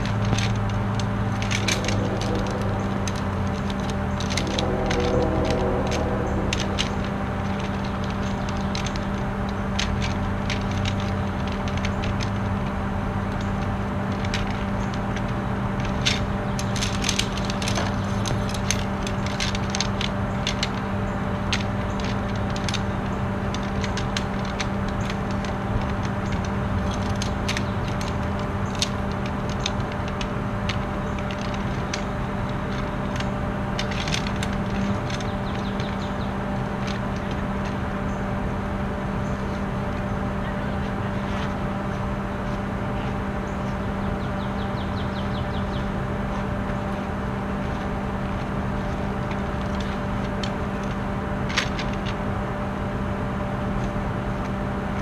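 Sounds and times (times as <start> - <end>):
metal poles clicking and clattering: 0.0 - 38.4, 44.8 - 52.3
steady low hum: 0.0 - 55.0.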